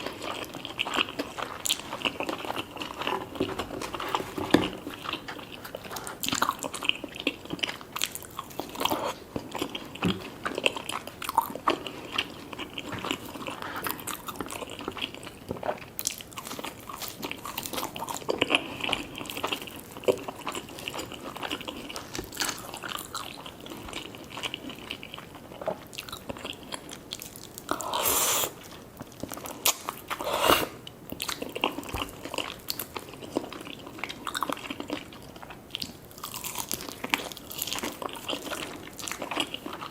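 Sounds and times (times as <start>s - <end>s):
crunching and chewing food: 0.0s - 39.9s.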